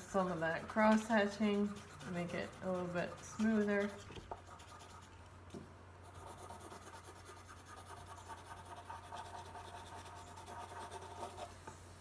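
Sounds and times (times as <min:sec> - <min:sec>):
pencil scratching on paper: 0:00.0 - 0:05.2, 0:06.0 - 0:11.6.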